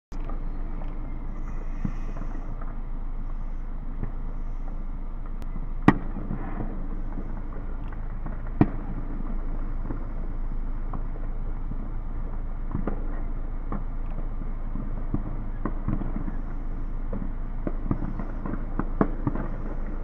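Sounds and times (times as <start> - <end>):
faint fireworks pops: 0.1 - 20.0
steady low rumble: 0.1 - 20.0
fireworks bangs: 0.2 - 20.0.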